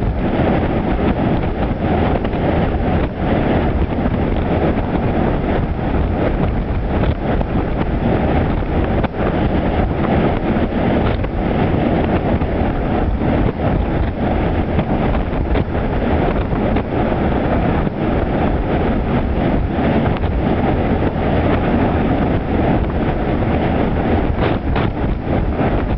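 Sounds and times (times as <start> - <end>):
storm wind buffeting microphone: 0.0 - 25.9.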